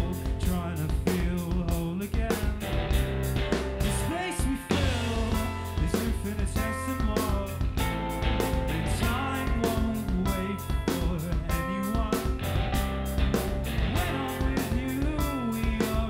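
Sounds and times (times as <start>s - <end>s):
drum kit beating fast rhythm: 0.0s - 16.0s
electric bass: 0.0s - 16.0s
electric guitar: 0.0s - 16.0s.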